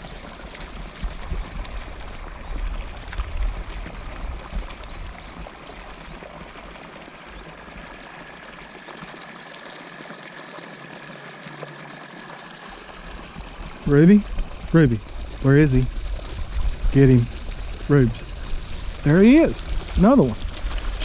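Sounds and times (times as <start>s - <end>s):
water pouring into pond: 0.0s - 21.0s.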